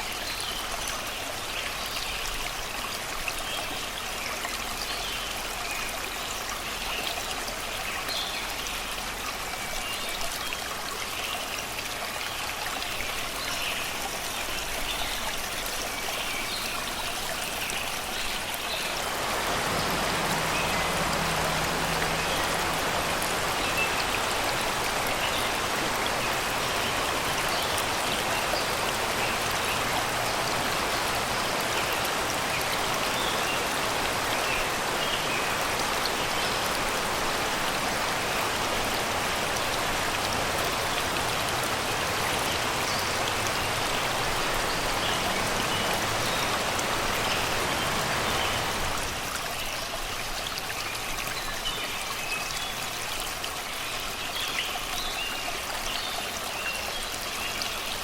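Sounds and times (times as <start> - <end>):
river rippling over rocks: 0.0 - 58.0.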